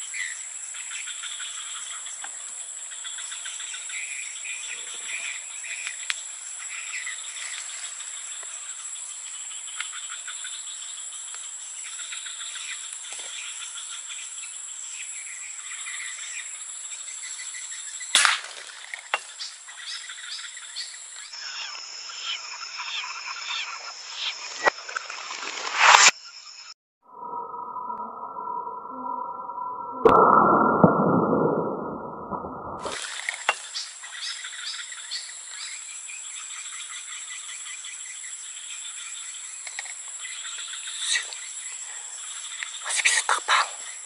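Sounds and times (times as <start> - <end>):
insects calling: 0.0 - 27.5, 32.8 - 44.0.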